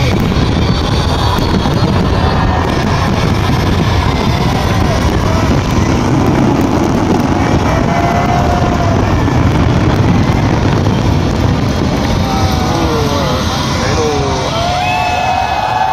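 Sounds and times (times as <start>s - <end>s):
fireworks booming and crackling: 0.0s - 15.9s.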